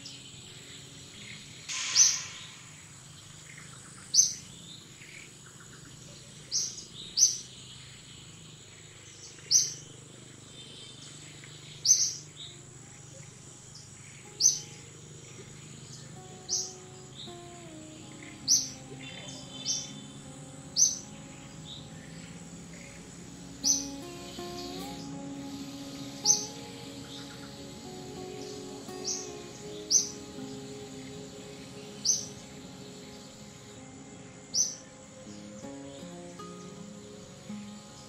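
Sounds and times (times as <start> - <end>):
high-pitched insect drone: 0.0 - 5.3, 11.0 - 38.0
bird chirping: 0.0 - 38.0.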